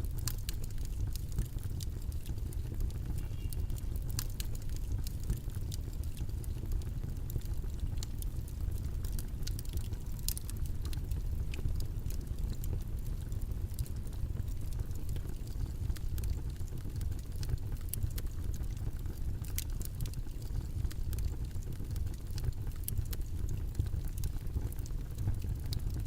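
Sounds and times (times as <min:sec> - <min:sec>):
low rumbling white noise: 0:00.0 - 0:26.0.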